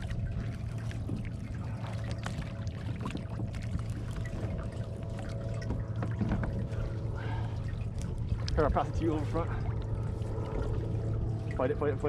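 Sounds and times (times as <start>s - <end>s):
water sloshing against kayak hull: 0.0s - 12.0s.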